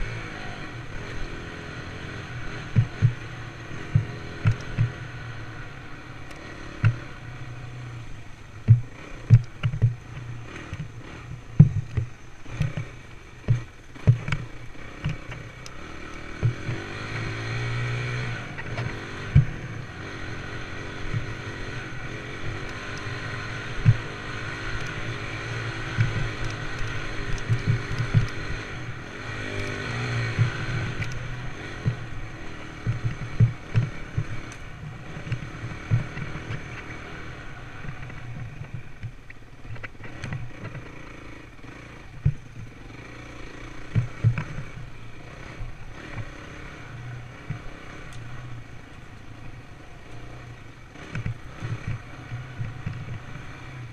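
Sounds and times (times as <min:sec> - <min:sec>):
dirt bike engine revving: 0:00.0 - 0:53.9
sharp thumps over bumps: 0:00.0 - 0:53.9.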